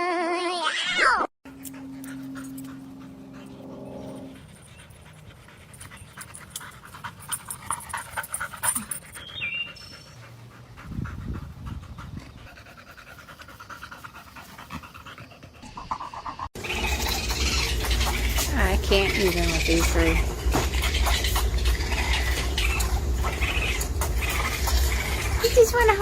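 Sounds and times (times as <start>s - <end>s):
dog panting: 1.5s - 26.0s.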